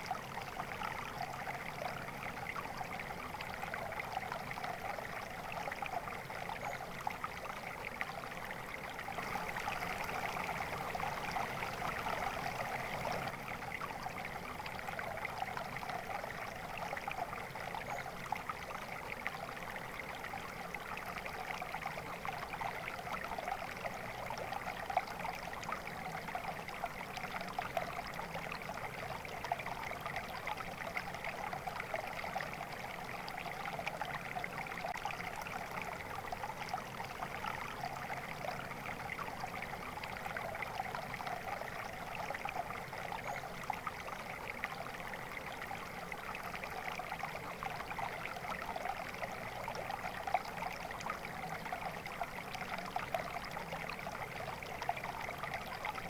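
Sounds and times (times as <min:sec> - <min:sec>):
small stream trickling: 0:00.0 - 0:56.0.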